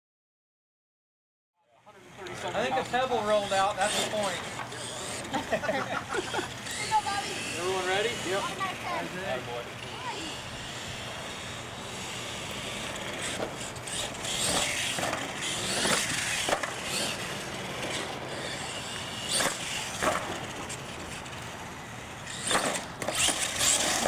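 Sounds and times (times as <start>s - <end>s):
toy truck motor running: 1.8s - 24.0s.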